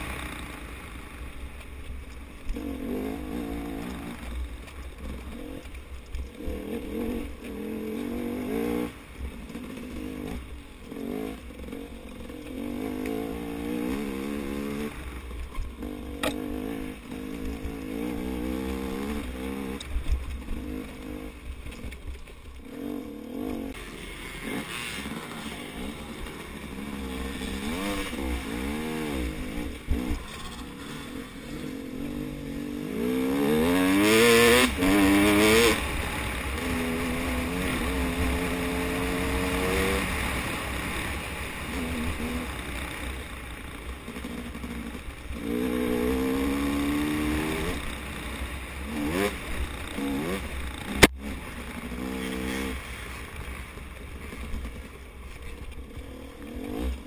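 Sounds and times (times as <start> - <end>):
dirt bike engine revving: 2.5 - 21.5, 22.6 - 54.9, 55.8 - 57.0.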